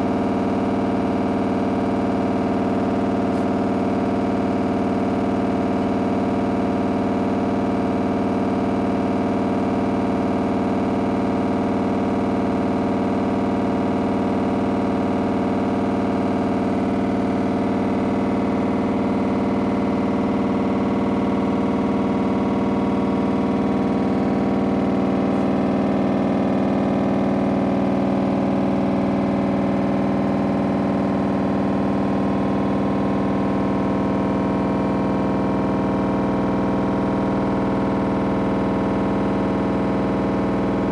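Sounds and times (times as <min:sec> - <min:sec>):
washing machine rattling and humming: 0:00.0 - 0:40.9.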